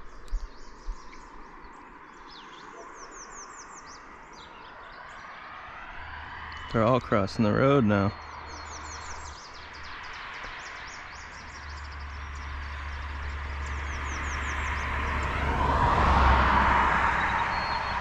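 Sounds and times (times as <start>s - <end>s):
small birds calling: 0.0s - 5.7s, 6.5s - 18.0s
road vehicle passing: 1.5s - 18.0s.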